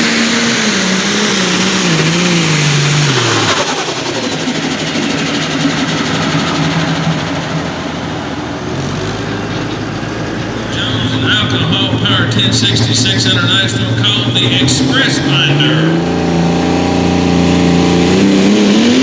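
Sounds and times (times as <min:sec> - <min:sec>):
engine coming off throttle: 0:00.0 - 0:19.0.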